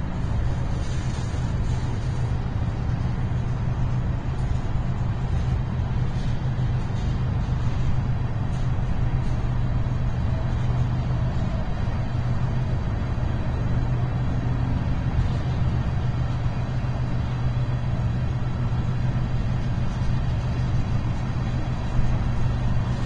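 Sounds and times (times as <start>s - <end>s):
freight train wheels rumbling on rails: 0.0s - 23.0s.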